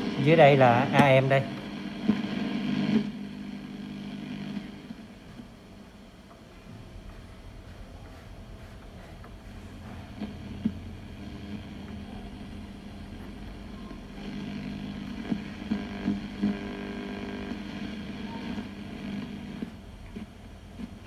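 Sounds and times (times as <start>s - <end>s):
radio hum and static: 0.0s - 21.0s.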